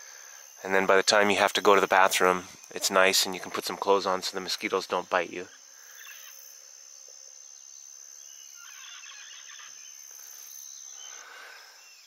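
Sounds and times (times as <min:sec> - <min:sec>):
birds calling: 0:00.0 - 0:06.6, 0:08.2 - 0:12.0
insect high-pitched trill: 0:00.0 - 0:12.0.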